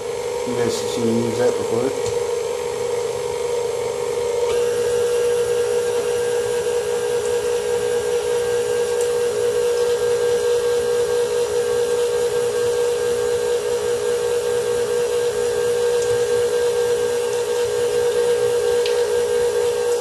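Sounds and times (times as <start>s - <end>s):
electric motor humming: 0.0s - 20.0s.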